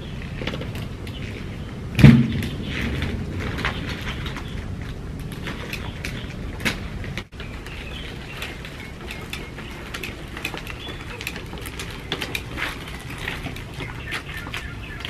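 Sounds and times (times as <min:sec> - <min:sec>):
wheelchair wheels rolling on gravel: 0:00.0 - 0:15.0.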